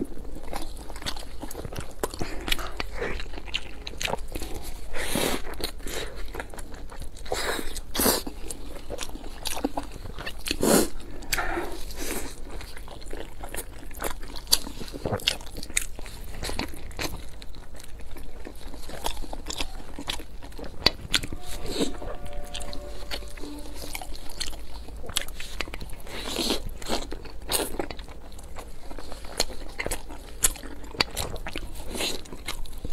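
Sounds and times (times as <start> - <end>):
dumpling being chewed: 0.0 - 21.4, 24.4 - 32.9.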